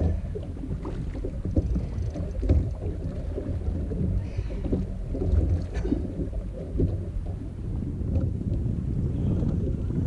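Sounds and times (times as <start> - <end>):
water lapping against boat hull: 0.0 - 10.0
wind rumbling on microphone: 0.0 - 10.0.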